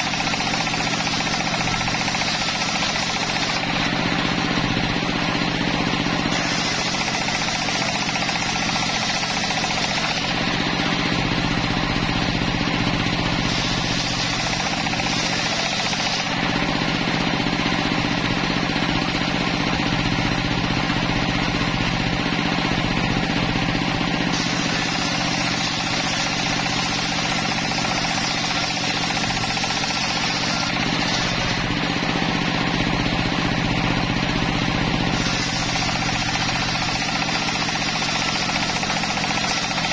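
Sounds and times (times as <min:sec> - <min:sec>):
saw blade cutting timber: 0:00.0 - 0:39.9
sawmill engine drone: 0:00.0 - 0:39.9.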